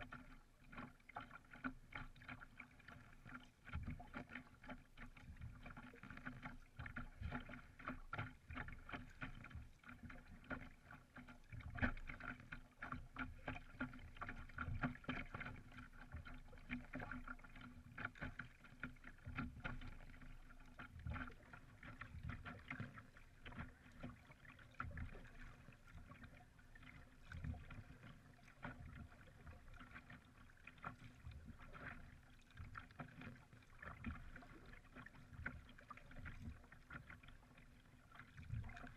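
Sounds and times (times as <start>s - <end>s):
paddle splashes and drips: 0.0s - 38.9s
water lapping against hull: 0.0s - 38.9s.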